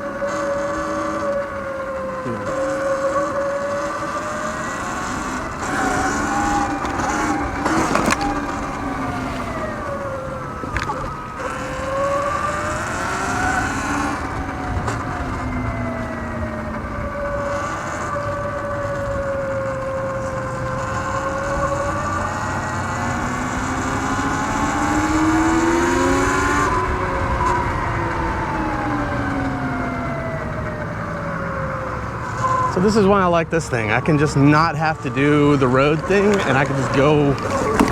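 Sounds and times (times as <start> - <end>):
electric dirt bike motor whining: 0.0 - 33.2, 33.8 - 37.9.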